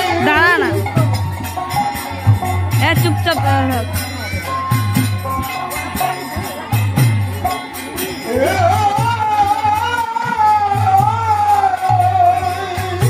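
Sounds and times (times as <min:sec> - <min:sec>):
drum beats: 0:00.0 - 0:13.0
jingling small cymbals: 0:00.0 - 0:13.0.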